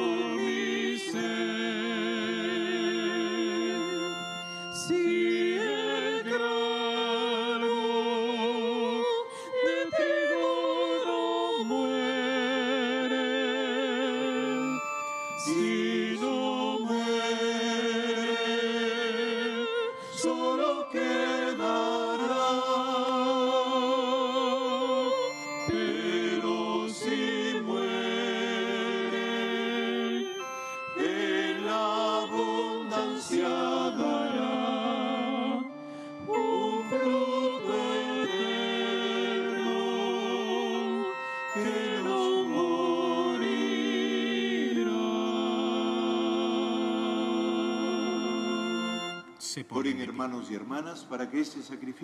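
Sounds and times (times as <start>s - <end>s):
person singing a hymn: 0.0s - 49.6s.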